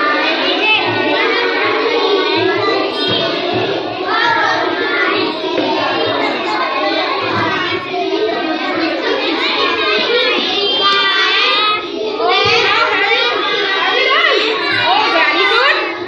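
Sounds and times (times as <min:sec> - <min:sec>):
young children's voices: 0:00.0 - 0:16.0.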